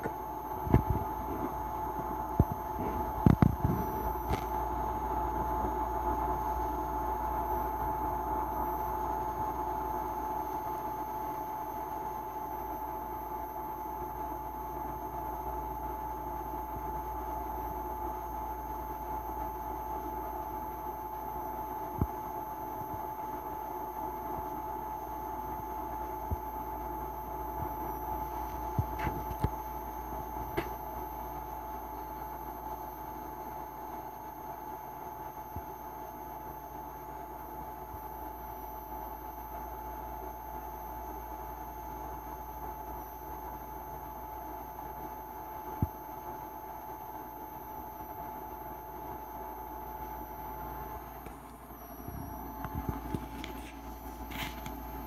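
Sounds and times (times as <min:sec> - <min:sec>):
constant mid-pitched whine: 0:00.0 - 0:55.0
steady background hum: 0:00.0 - 0:55.0.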